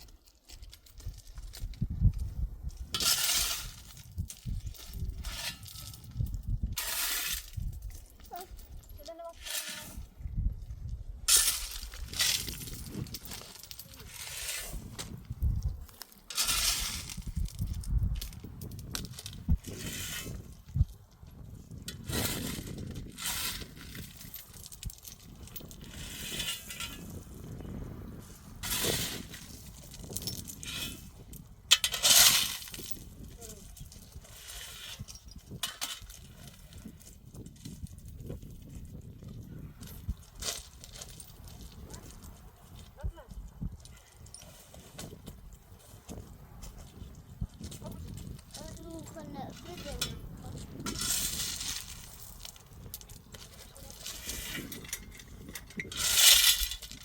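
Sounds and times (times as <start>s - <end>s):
pebbles clattering and sliding: 0.0s - 10.1s, 10.8s - 43.5s, 46.9s - 57.0s.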